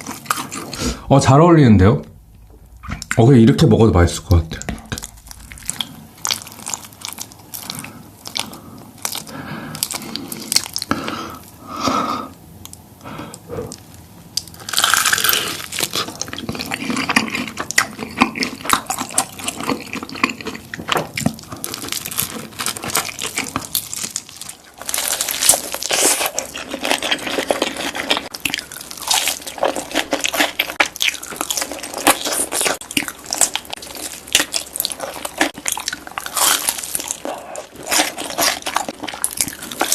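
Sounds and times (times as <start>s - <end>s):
crunching and chewing fried chicken: 0.0s - 1.0s, 4.9s - 39.9s.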